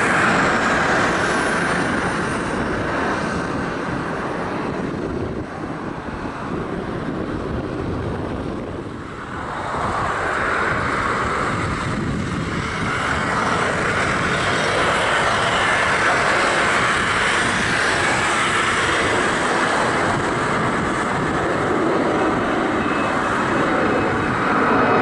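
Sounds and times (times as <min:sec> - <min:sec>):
jet engines at takeoff: 0:00.0 - 0:25.0.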